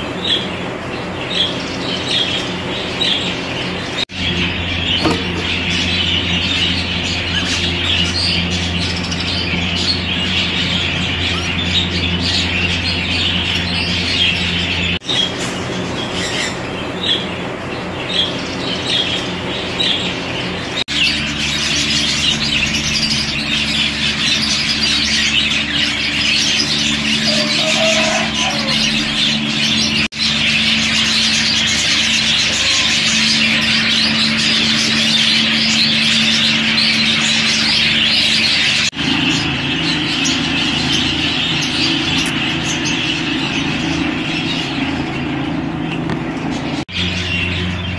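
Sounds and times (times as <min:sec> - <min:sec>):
budgerigars chattering and chirping: 0:00.0 - 0:47.9
steady low hum: 0:00.0 - 0:47.9.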